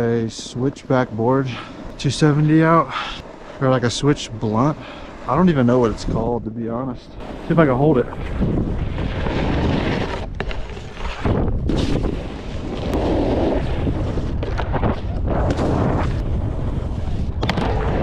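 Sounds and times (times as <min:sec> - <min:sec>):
snowboard scraping over snow: 0:00.0 - 0:18.0
wind rumbling on microphone: 0:00.0 - 0:18.0.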